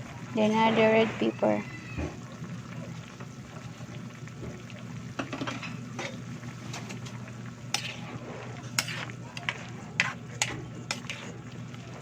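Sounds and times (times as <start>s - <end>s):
stew simmering and bubbling: 0.0s - 12.0s.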